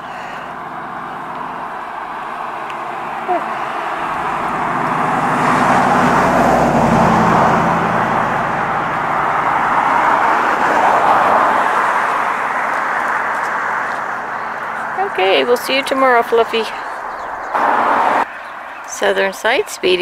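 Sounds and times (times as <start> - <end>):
low engine hum: 0.0 - 18.3
passing vehicle tyre rush: 0.0 - 18.8.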